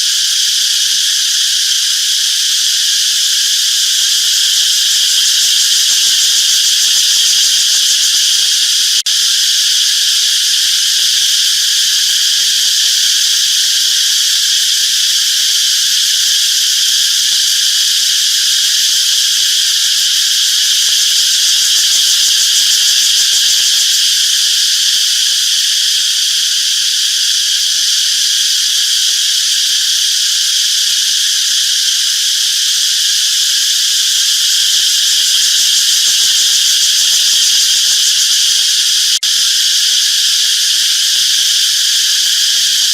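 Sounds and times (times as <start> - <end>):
cicadas buzzing: 0.0 - 42.9.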